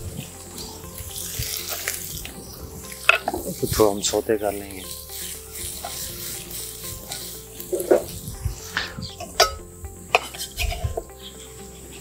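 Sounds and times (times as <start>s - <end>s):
vegetables sizzling in oil: 0.2s - 11.9s.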